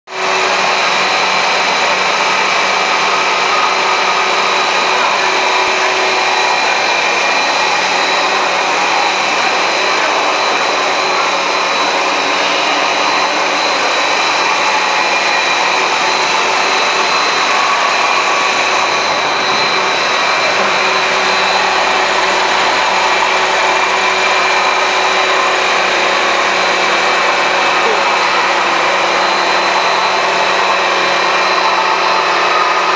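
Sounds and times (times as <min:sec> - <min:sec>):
high steady whines: 0:00.1 - 0:32.9
motors and fans whirring: 0:00.1 - 0:32.9.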